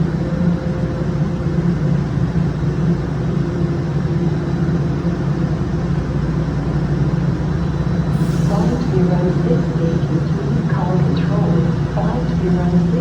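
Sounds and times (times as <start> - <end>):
subway train low hum: 0.0 - 13.0.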